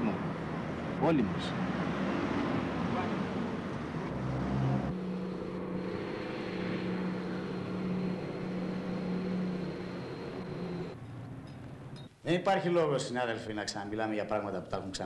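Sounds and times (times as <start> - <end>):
vehicle engine humming: 0.0 - 12.2
road noise: 0.0 - 12.8.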